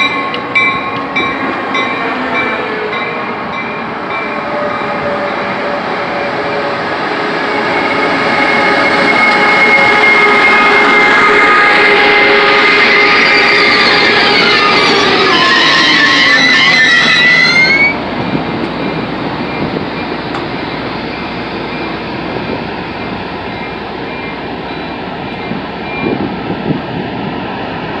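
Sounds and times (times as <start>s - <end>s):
locomotive engine whine: 0.0s - 28.0s
rumble of moving train: 0.0s - 28.0s.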